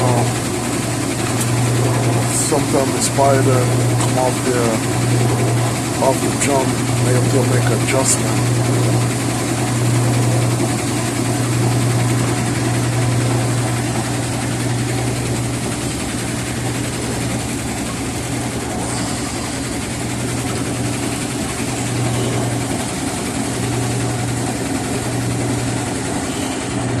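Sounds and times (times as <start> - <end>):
washing machine humming and rumbling: 0.0 - 27.0.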